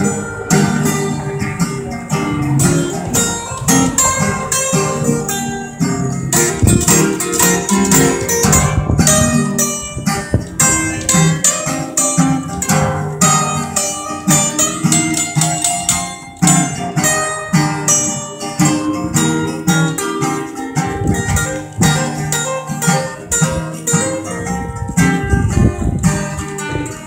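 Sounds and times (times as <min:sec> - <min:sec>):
acoustic guitars playing: 0:00.0 - 0:27.0.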